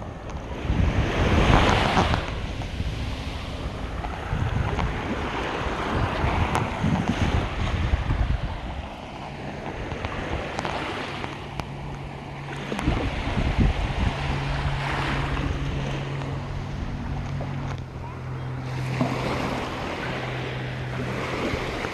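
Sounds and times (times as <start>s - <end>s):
ocean surf washing ashore: 0.0s - 21.9s
wind buffeting microphone: 0.0s - 21.9s.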